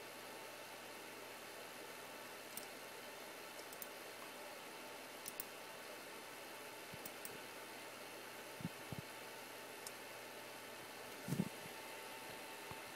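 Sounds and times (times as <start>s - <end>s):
faint room tone hiss: 0.0s - 12.9s.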